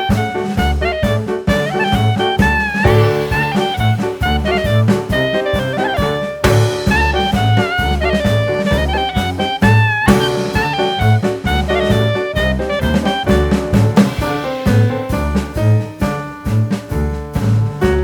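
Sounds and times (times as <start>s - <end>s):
shrill lead melody bending in pitch: 0.0s - 15.3s
bass: 0.0s - 18.0s
drum beat: 0.0s - 18.0s.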